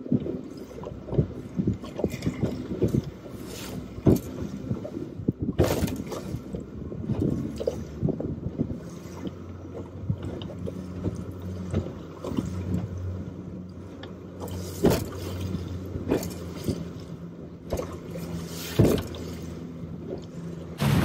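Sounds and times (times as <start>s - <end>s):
boat engine running: 0.0s - 21.0s
boat hull slapping waves: 0.0s - 21.0s.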